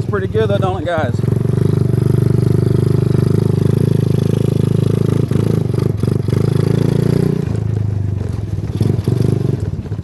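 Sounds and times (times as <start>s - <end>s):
small engine running steadily: 0.0s - 10.0s.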